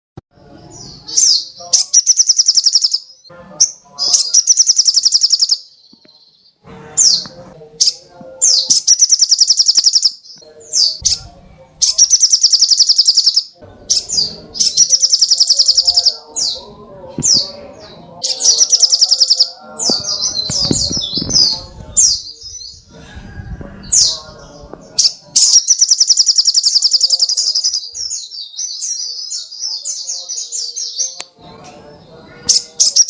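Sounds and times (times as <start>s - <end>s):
songbird trilling song: 0.6s - 31.4s, 32.4s - 33.0s.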